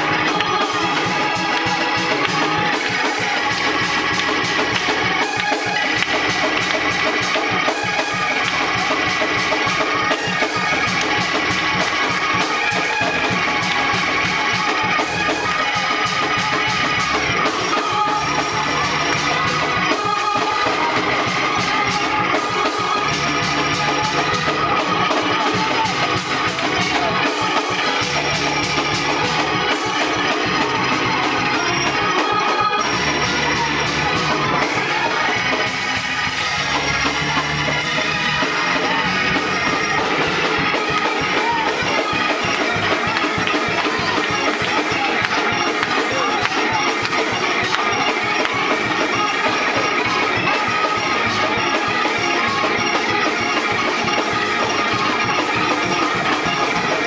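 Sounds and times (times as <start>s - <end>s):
bass notes: 0.0s - 57.0s
driving drum beat: 0.0s - 57.0s
organ chords: 0.0s - 57.0s.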